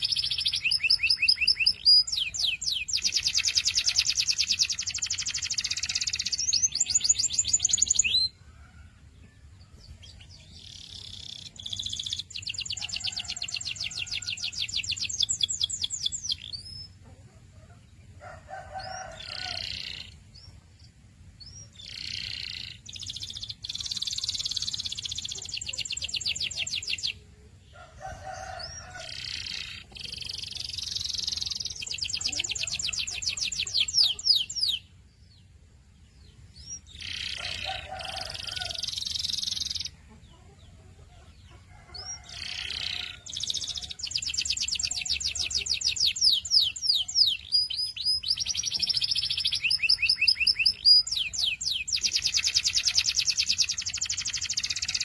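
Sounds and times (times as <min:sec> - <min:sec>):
canary singing with rolling trills: 0:00.0 - 0:55.0.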